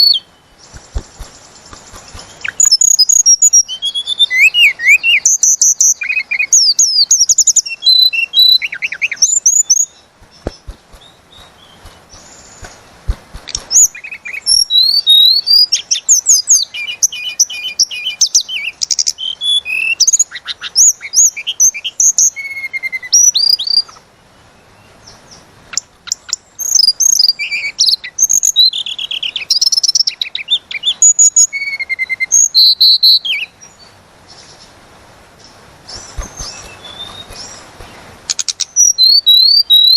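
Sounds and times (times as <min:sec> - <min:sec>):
songbird whistling trills: 0:00.0 - 0:12.9, 0:13.5 - 0:24.0, 0:26.0 - 0:34.5, 0:35.4 - 0:39.9.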